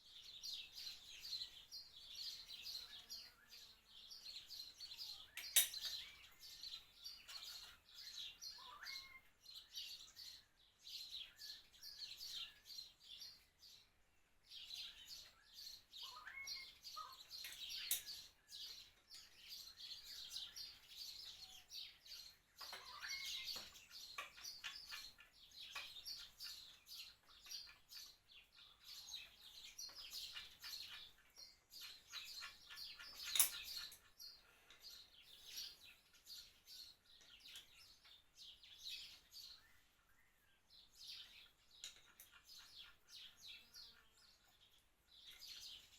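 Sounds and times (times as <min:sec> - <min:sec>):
birds chirping and twittering: 0:00.0 - 0:45.9.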